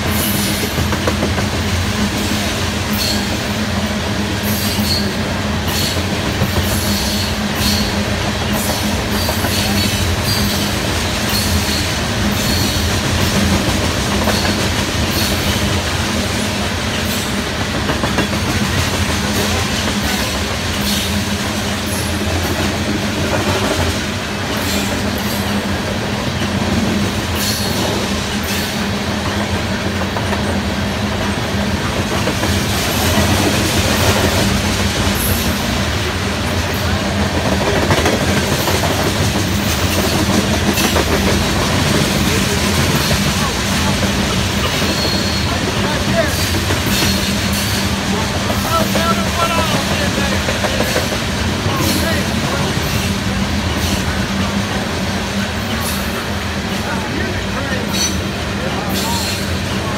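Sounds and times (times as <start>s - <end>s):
steel wheels rumbling on rail: 0.0s - 59.9s
train cars clicking and clacking: 0.0s - 59.9s.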